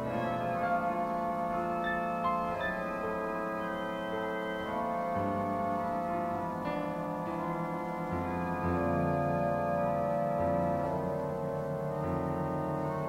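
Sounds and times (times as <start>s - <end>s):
slow sustained chords: 0.0s - 13.0s.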